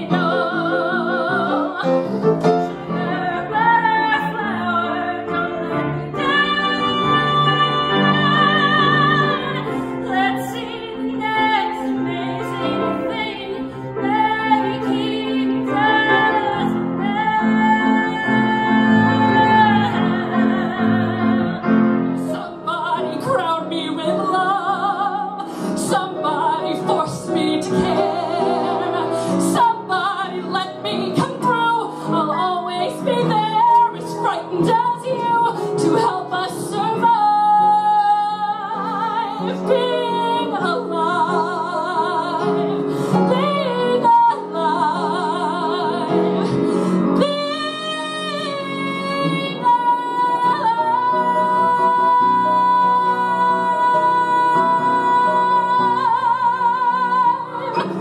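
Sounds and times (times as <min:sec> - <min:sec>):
grand piano accompaniment: 0:00.0 - 0:58.0
woman singing: 0:00.0 - 0:58.0.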